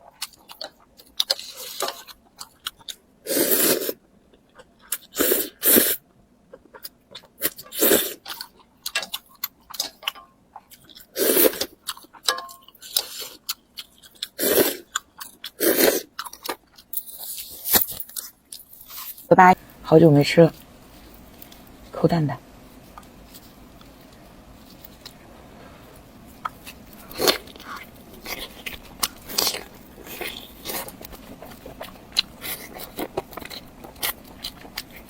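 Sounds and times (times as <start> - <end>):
crunchy chewing: 0.0 - 19.9, 20.5 - 21.9, 22.6 - 35.0.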